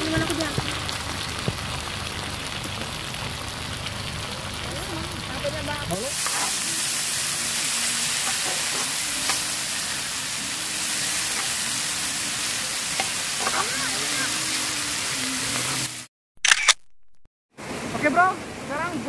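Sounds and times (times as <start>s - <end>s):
food sizzling on griddle: 0.0s - 16.1s.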